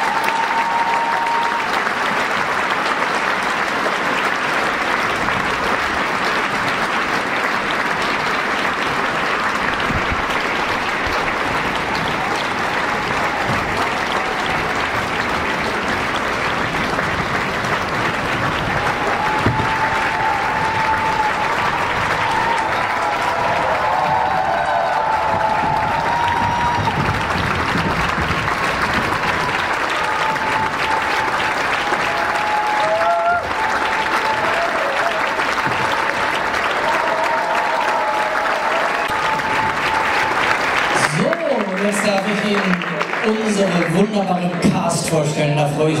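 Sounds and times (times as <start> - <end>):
audience applauding: 0.0 - 46.0.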